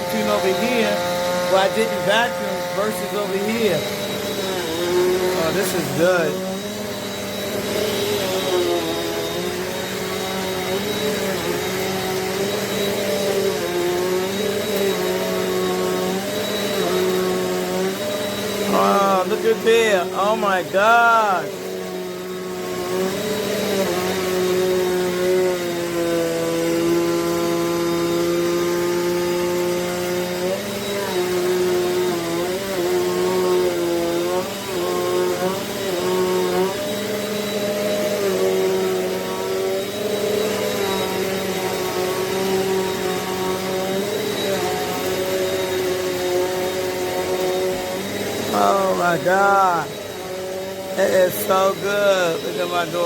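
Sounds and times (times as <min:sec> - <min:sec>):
upright vacuum cleaner on carpet: 0:00.0 - 0:53.0.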